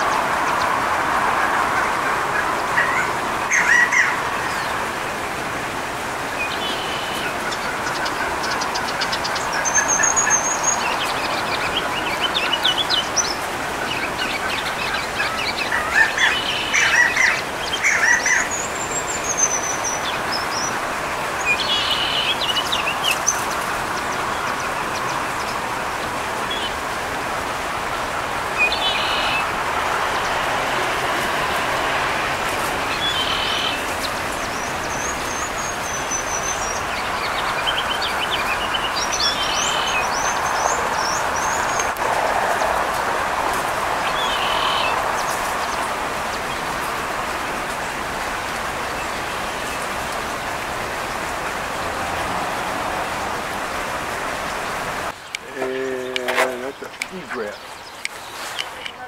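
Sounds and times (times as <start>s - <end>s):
songbirds chirping: 0.0s - 59.0s
steady rushing background noise: 0.0s - 59.0s.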